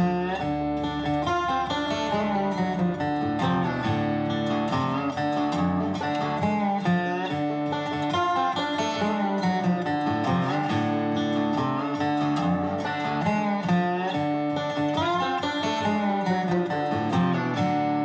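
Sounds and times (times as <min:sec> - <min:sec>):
country acoustic guitar: 0:00.0 - 0:18.0.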